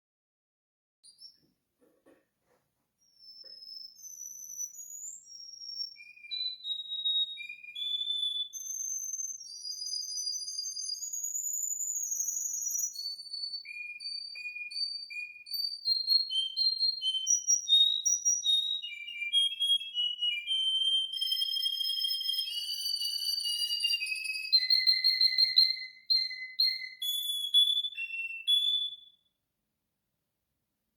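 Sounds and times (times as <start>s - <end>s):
canary singing whistled notes: 1.0s - 1.4s, 3.0s - 29.3s.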